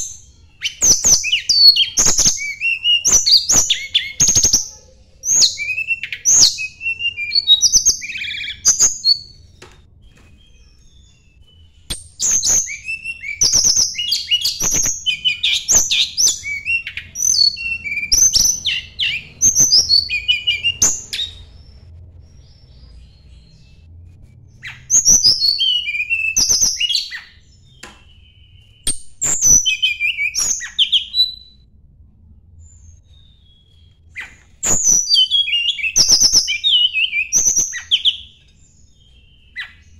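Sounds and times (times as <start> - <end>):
songbird chirping and whistling: 0.0 - 31.7, 32.6 - 39.9.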